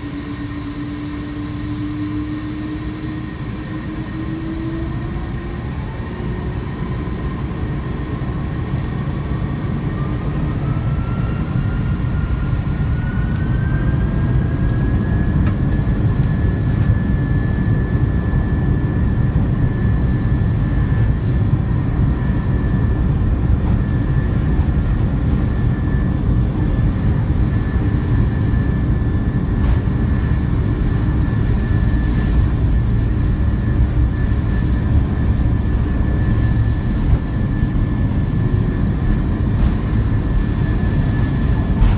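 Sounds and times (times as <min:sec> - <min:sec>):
deep jet engine rumble: 0:00.0 - 0:41.9
jet engine whine rising: 0:00.0 - 0:41.9.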